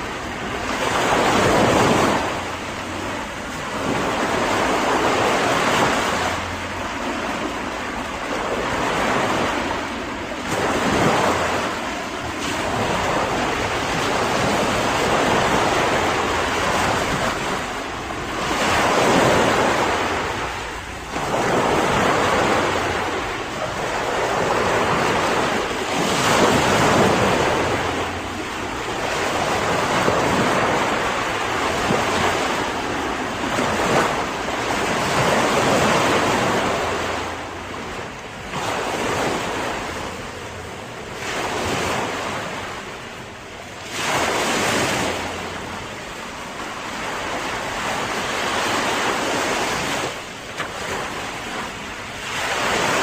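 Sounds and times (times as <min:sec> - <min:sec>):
ocean waves breaking on shore: 0:00.0 - 0:53.0
wind: 0:00.0 - 0:53.0.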